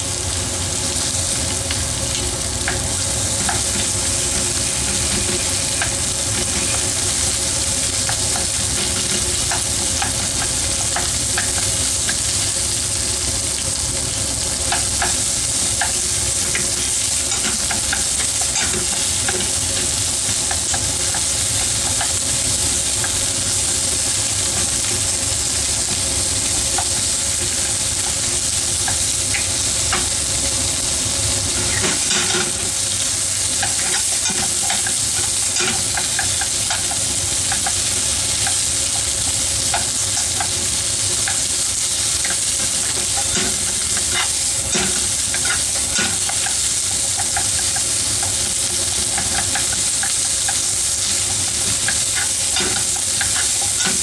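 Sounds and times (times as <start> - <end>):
onions sizzling in a pan: 0.0 - 54.0.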